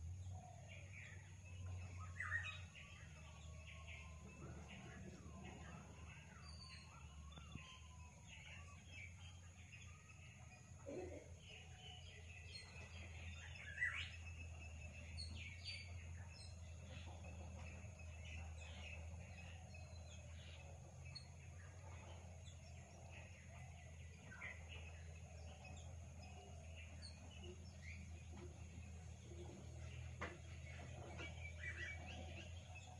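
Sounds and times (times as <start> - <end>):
faint bird chirps: 0.0 - 32.9
steady low hum: 0.0 - 32.9.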